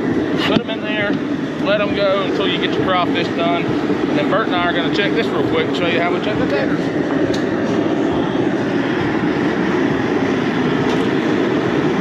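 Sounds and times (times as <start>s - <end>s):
jet burner roaring: 0.0s - 12.0s.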